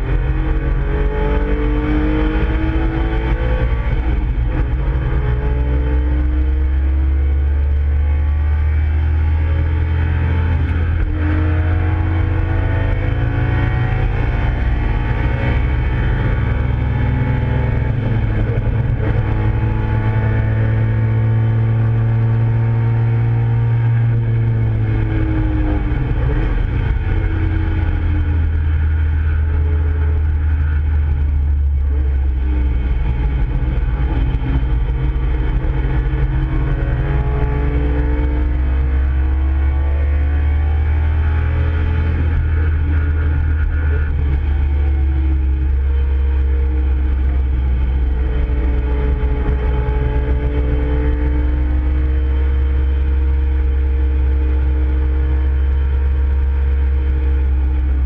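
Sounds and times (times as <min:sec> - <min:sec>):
car engine at racing speed: 0:00.0 - 0:58.0.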